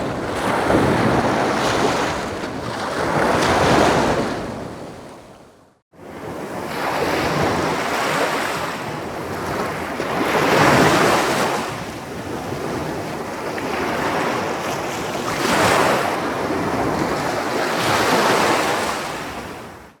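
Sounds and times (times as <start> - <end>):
ocean waves breaking: 0.0 - 19.4.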